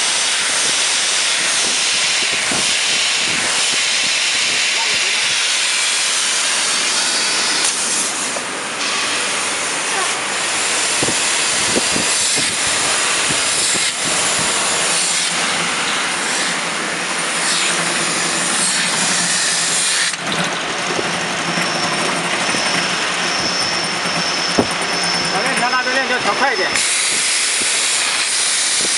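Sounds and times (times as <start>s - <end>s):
bottling machine hissing and rattling: 0.0s - 28.9s.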